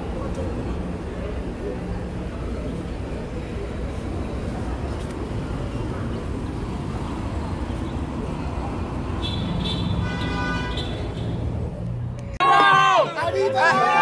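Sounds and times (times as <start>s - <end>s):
passing cars: 0.0s - 14.0s
traffic rumble: 0.0s - 14.0s.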